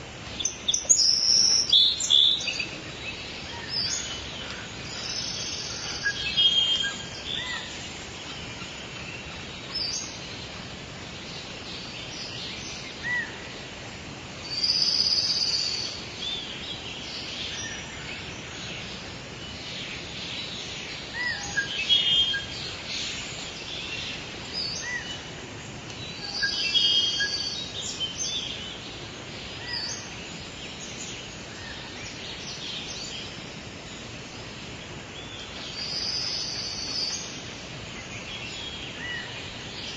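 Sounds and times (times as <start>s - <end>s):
outdoor background hiss: 0.0s - 39.9s
birds singing and chirping: 0.2s - 13.7s, 14.4s - 39.9s.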